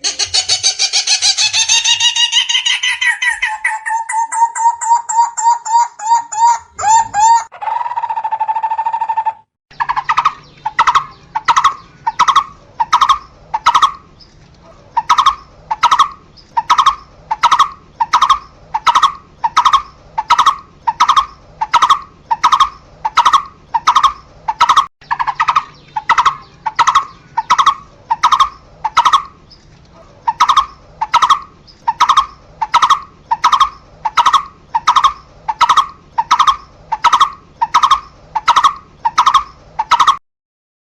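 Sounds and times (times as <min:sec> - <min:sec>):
barbet calling: 0:00.0 - 0:14.1, 0:14.7 - 0:29.4, 0:30.0 - 0:40.2.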